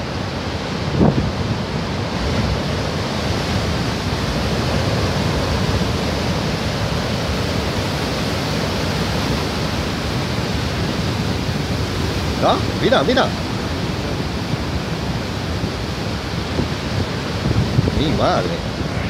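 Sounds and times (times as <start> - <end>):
storm surf breaking on rocks: 0.0 - 19.0.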